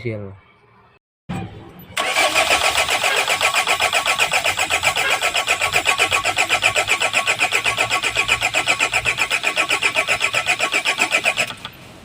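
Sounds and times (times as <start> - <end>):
diesel engine cranking without starting: 2.0 - 11.9.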